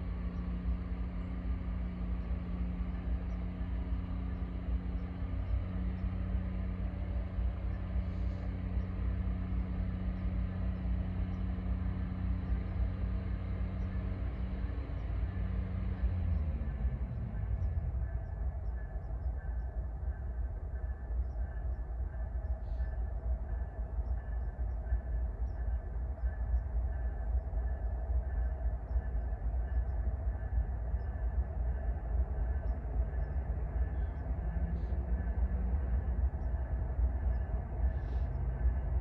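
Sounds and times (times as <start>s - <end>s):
diesel engine drone: 0.0s - 39.0s
freight train rumbling: 0.0s - 39.0s.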